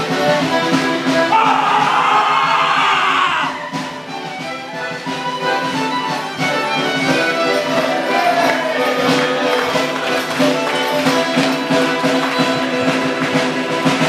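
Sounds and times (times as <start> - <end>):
dance band playing lively tune: 0.0 - 14.0
fiddle: 0.0 - 14.0.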